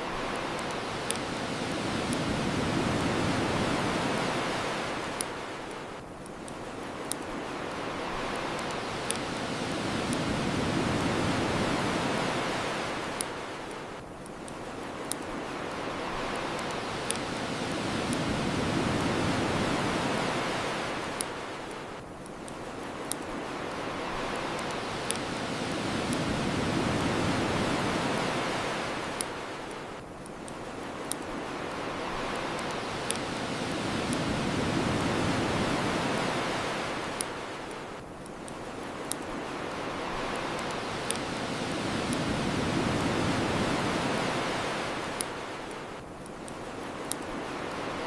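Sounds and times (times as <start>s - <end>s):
bonfire crackles: 0.0s - 48.0s
ocean surf washing on shore: 0.0s - 48.0s.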